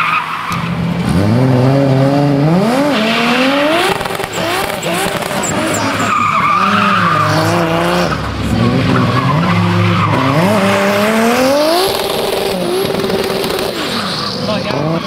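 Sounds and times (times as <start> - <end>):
car engine revving: 0.2 - 15.0
tyres squealing: 2.8 - 15.0.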